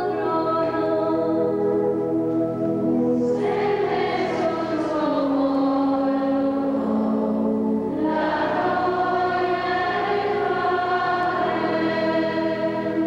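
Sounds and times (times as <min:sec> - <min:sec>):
choir singing a slow hymn: 0:02.4 - 0:13.0.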